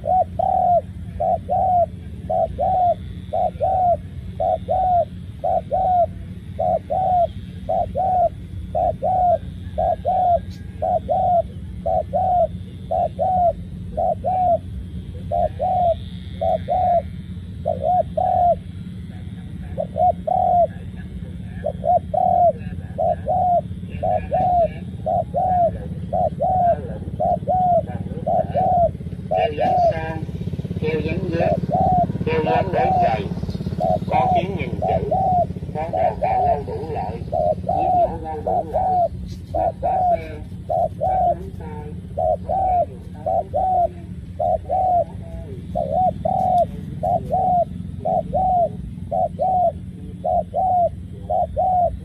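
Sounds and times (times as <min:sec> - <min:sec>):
dove cooing: 0:00.0 - 0:52.0
low hum: 0:00.0 - 0:52.0.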